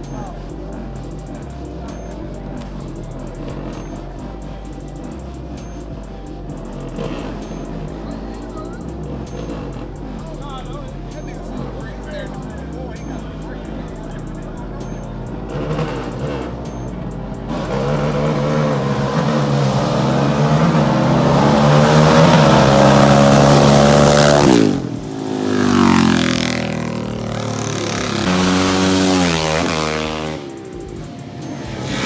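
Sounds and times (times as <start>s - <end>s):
vehicle engine accelerating: 0.0s - 32.0s.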